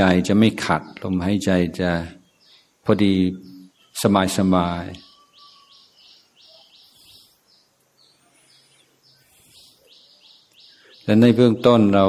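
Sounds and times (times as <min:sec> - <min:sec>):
faint high bird chirping: 0:00.8 - 0:12.0.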